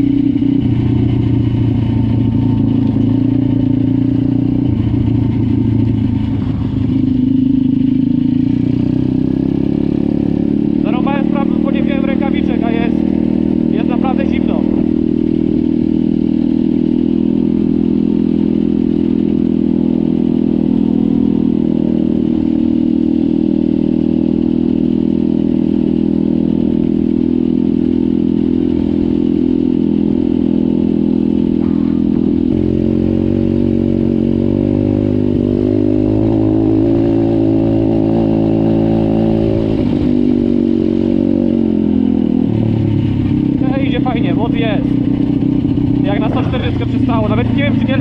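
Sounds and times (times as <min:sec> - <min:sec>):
motorbike engine running: 0:00.0 - 0:48.0.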